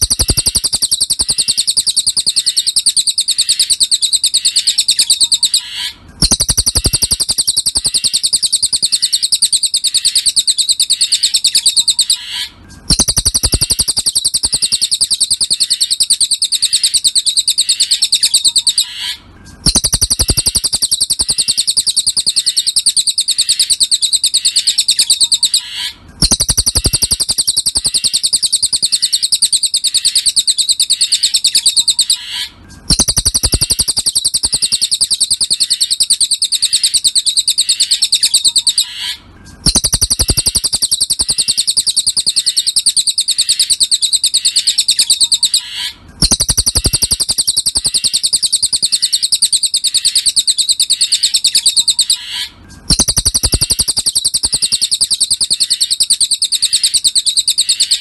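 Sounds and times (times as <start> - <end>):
bird high-pitched rapid trill: 0.0 - 58.0.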